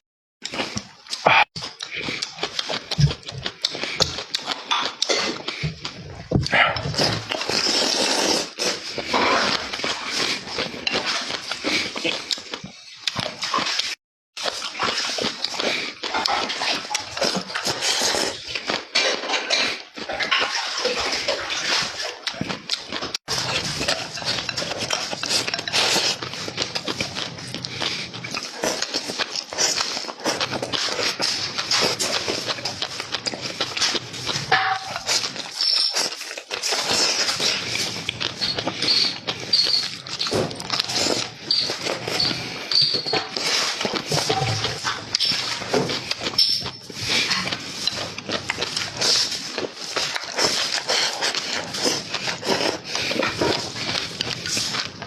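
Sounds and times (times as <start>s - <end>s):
wet chewing and slurping: 0.4s - 55.0s.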